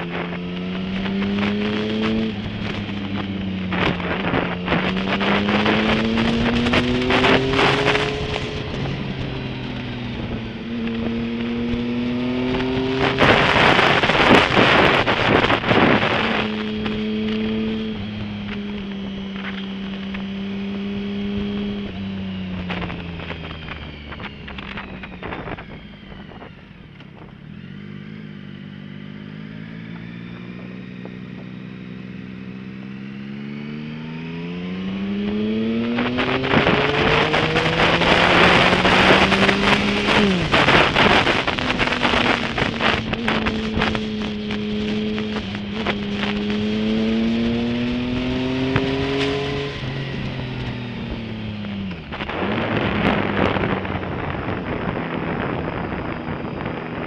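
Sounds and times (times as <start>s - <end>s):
wind buffeting on microphone: 0.0s - 28.0s, 34.1s - 57.0s
motorcycle engine accelerating: 0.0s - 57.0s.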